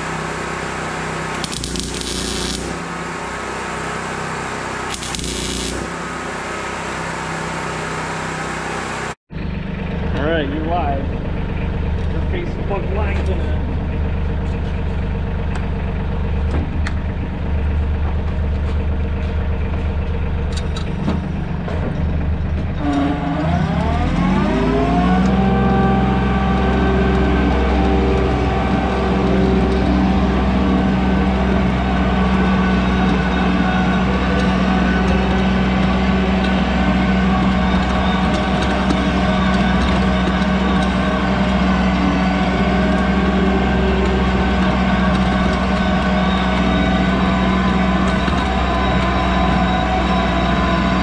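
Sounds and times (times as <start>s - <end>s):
tractor diesel engine idling and revving: 0.0s - 51.0s.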